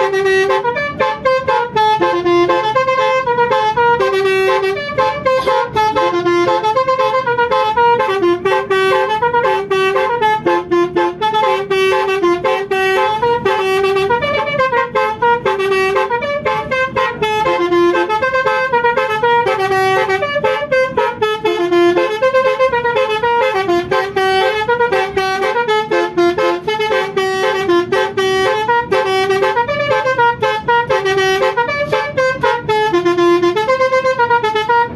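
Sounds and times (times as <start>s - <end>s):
bus musical horn melody: 0.0s - 34.9s.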